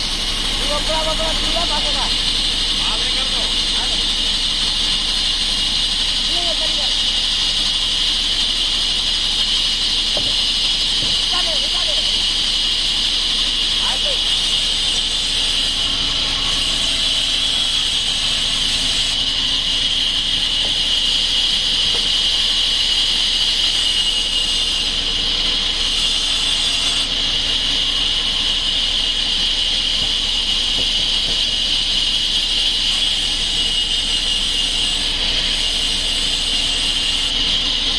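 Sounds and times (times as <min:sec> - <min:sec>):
band saw cutting log: 0:00.0 - 0:37.9.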